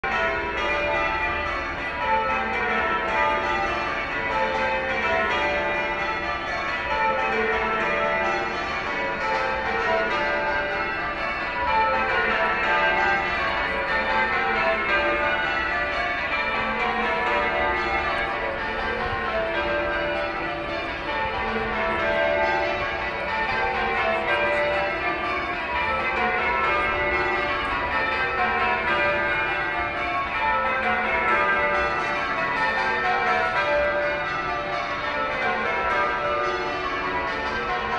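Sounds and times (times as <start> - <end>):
church bells change ringing: 0.0 - 37.9.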